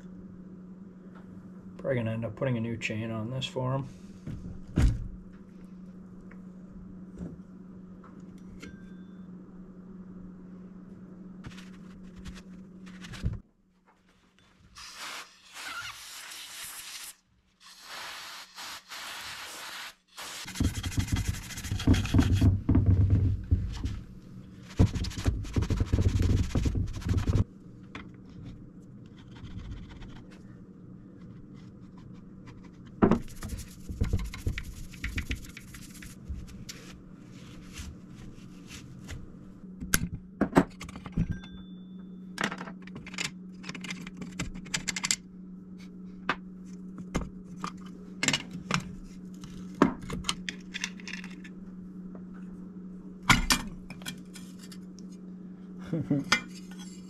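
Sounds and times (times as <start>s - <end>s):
steady low hum: 0.0s - 15.5s, 20.0s - 57.0s.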